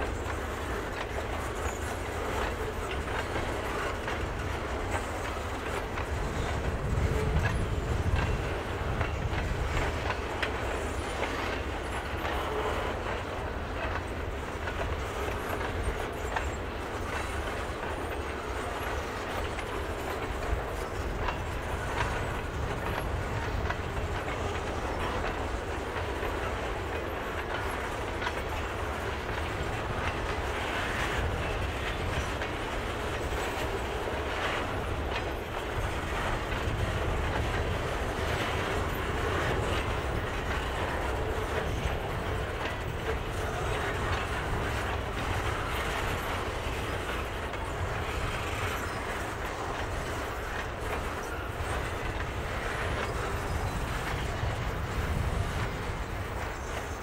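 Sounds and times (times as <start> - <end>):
steel wheels rumbling on track: 0.0 - 57.0.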